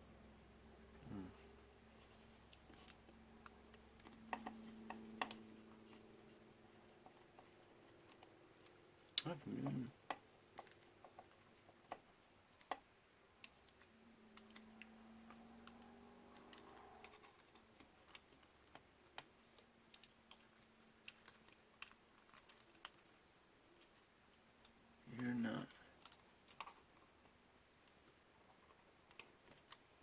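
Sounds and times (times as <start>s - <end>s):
faint low hum: 0.0s - 30.0s
small parts clicking and tapping: 2.4s - 24.8s, 25.6s - 30.0s.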